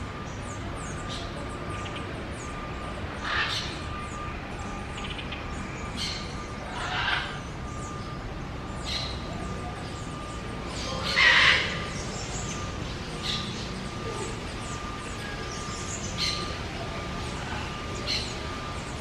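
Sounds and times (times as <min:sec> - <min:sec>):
faint steady high tone: 0:00.0 - 0:19.0
wild birds calling: 0:00.1 - 0:19.0.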